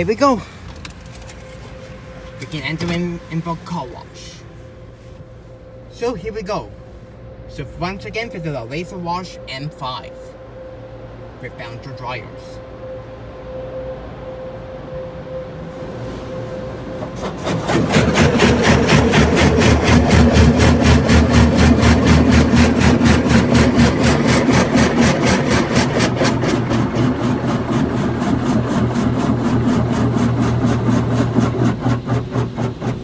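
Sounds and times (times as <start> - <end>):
wash pump hum: 0.0 - 33.0.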